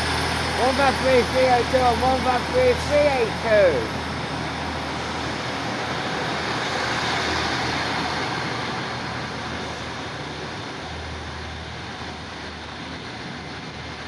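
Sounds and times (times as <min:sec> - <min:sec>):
diesel train passing: 0:00.0 - 0:14.0.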